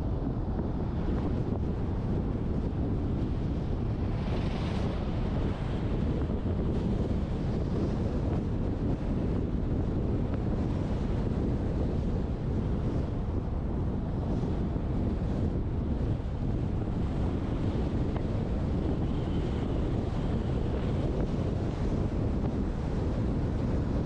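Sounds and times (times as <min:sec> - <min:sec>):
truck road noise rumble: 0:00.0 - 0:24.0
wind buffeting camera: 0:00.0 - 0:24.0.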